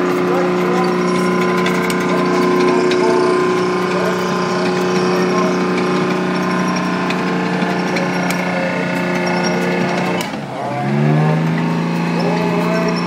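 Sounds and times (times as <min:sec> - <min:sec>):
sharp metal clanks: 0:00.0 - 0:10.5
heavy engine running under load: 0:00.0 - 0:13.0.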